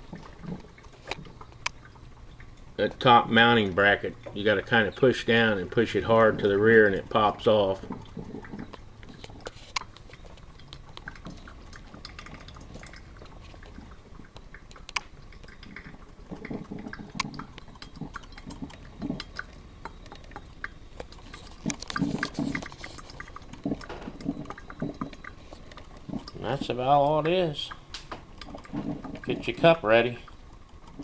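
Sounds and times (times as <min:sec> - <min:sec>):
coffee maker gurgling and dripping: 0:00.0 - 0:31.0.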